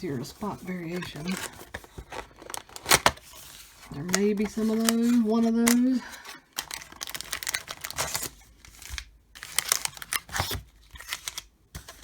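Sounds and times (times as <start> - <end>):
card packs crinkling and tearing: 0.0 - 12.0.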